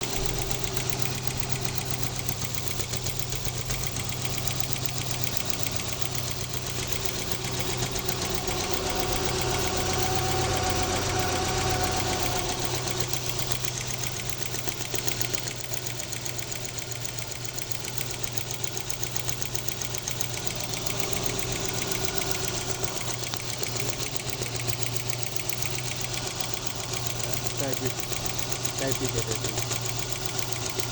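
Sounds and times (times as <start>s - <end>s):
engine running: 0.0s - 30.9s
fast even tappet ticking: 0.0s - 30.9s.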